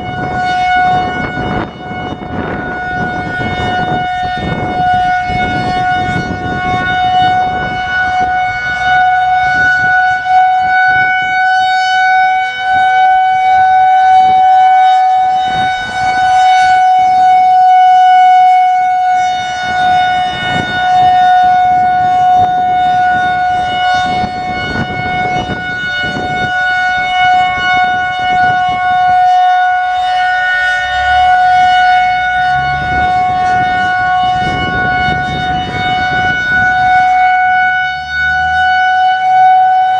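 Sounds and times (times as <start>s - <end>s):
warning siren steady high tone: 0.0s - 39.9s.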